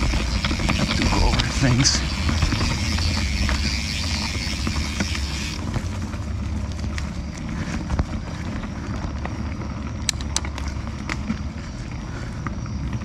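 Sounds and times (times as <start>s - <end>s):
bike clicks and knocks: 0.0s - 11.5s
bike tyres rumbling on trail: 0.0s - 13.0s.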